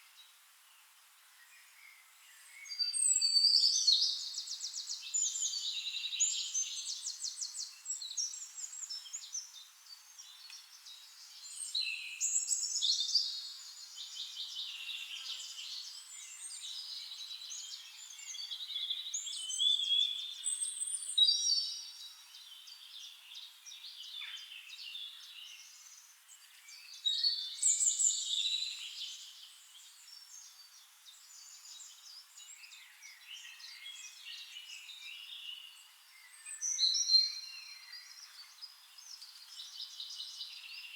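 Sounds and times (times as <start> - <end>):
songbirds chirping and trilling: 0.2 - 40.9.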